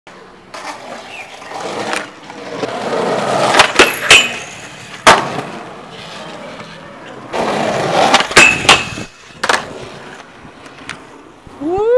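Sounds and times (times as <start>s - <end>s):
skateboard wheels rolling on concrete: 0.1s - 11.9s
skateboard clacks: 0.5s - 11.0s.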